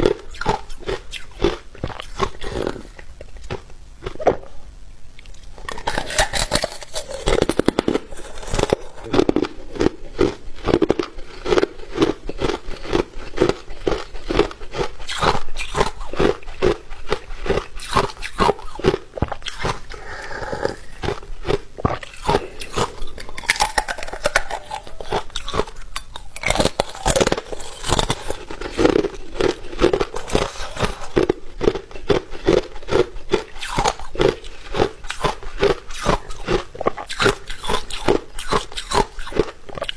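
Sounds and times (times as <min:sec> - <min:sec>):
ice being chewed: 0:00.0 - 0:04.5, 0:05.2 - 0:39.9.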